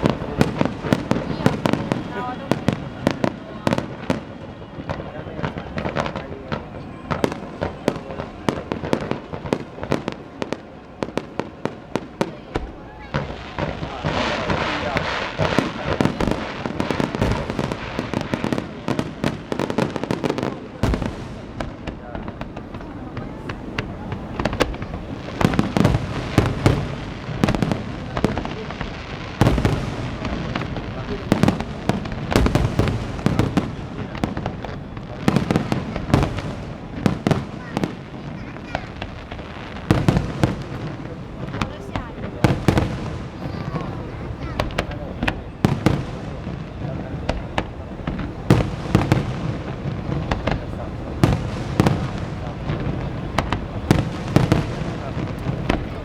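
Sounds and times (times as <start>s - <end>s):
firework bangs: 0.0s - 56.0s
firework crackle: 0.0s - 56.0s.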